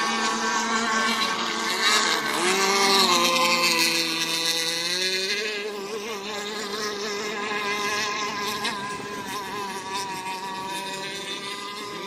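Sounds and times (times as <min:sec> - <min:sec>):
high-pitched model boat motors buzzing: 0:00.0 - 0:12.0.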